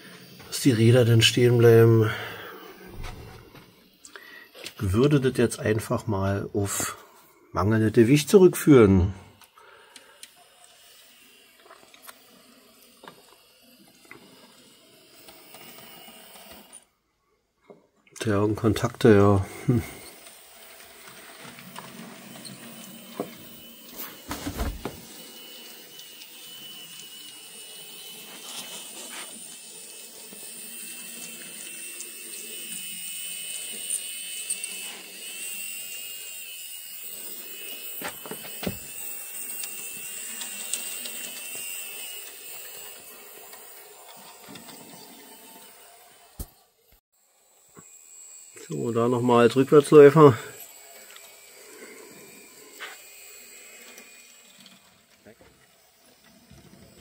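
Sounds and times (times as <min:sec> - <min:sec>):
small electric motor whining: 0:00.0 - 0:17.5, 0:18.2 - 0:57.0.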